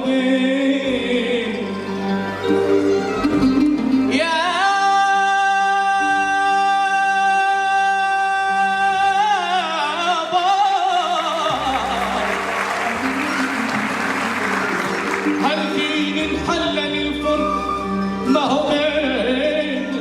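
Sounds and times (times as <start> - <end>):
instrumental accompaniment: 0.1 - 20.0.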